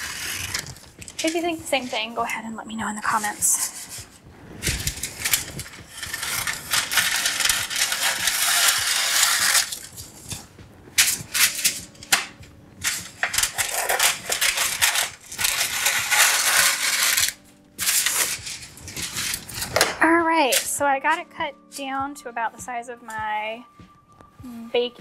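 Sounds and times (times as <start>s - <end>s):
paper crinkling: 0.0s - 2.2s, 2.8s - 20.8s
paper rustling: 0.0s - 20.8s.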